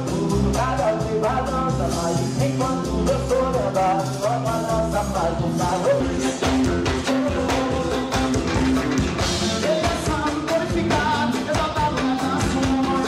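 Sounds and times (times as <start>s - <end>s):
gospel song with drums: 0.0s - 13.0s.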